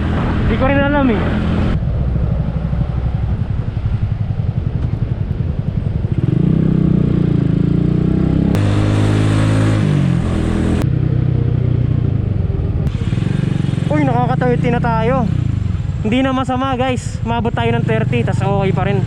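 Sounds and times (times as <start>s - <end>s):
motorcycle engine revving: 0.0s - 16.4s, 17.4s - 19.0s.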